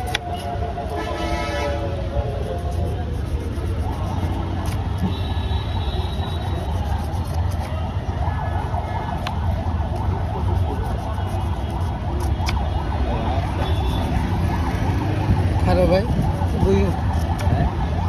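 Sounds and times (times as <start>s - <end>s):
traffic engine rumble: 0.0s - 18.0s
warbling siren-like tone: 0.0s - 18.0s.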